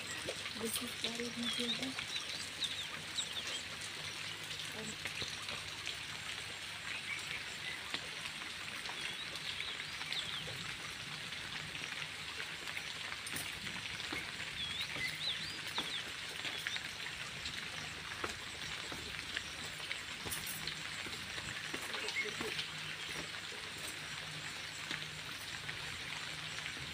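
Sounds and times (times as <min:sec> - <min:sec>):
rain falling on puddles: 0:00.0 - 0:26.9.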